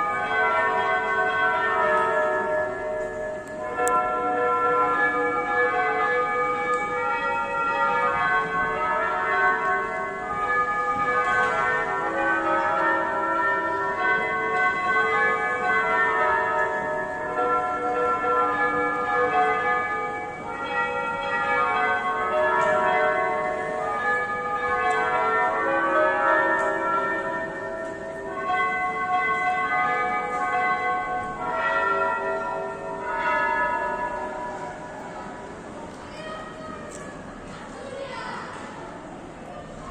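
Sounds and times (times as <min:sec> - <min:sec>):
bells ringing: 0:00.0 - 0:37.4.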